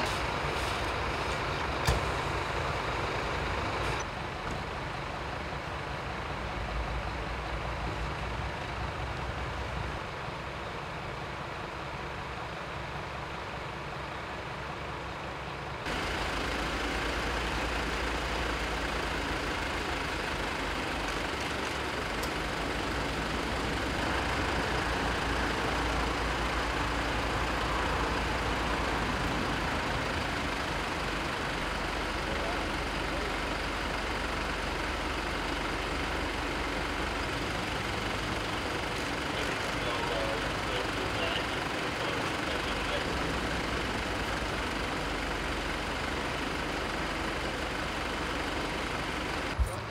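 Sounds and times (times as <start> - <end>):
emergency vehicles idling: 0.0 - 49.9.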